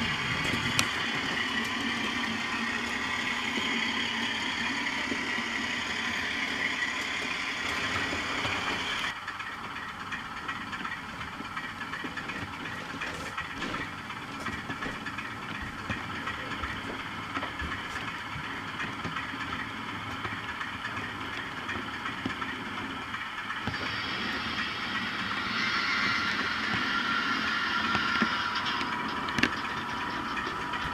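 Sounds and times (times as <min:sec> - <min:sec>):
model locomotive engine sound: 0:00.0 - 0:30.9
wheels clicking on model track: 0:00.0 - 0:30.9.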